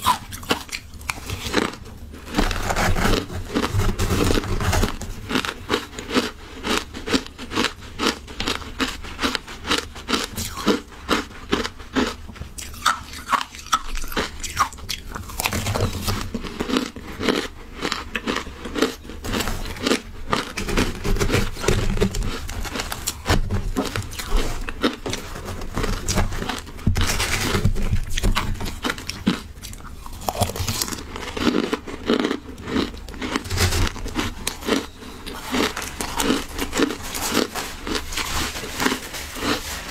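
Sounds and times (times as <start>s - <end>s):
chewing crunchy shaved ice: 0.0s - 39.9s.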